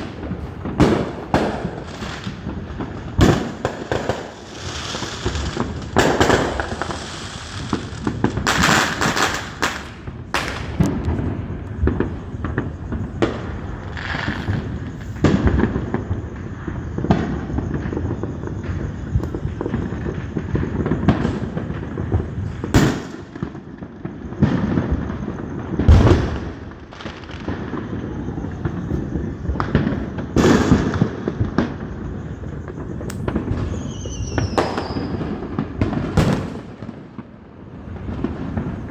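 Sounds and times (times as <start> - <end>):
falling firework whistle: 0.0 - 38.9
fireworks bangs and booms: 0.0 - 38.9
fireworks crackling: 0.0 - 38.9.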